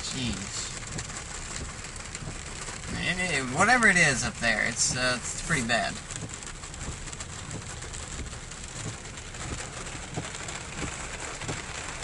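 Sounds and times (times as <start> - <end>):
road noise inside truck: 0.0 - 12.0
steady rain: 0.0 - 12.0.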